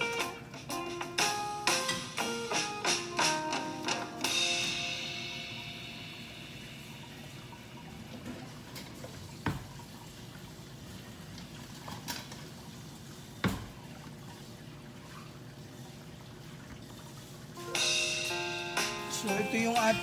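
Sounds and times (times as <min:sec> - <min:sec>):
oil bubbling and sizzling: 0:00.0 - 0:20.0.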